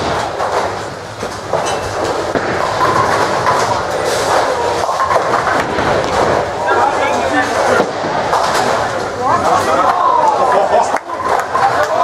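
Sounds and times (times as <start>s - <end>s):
bowling balls rumbling down lanes: 0.0s - 12.0s.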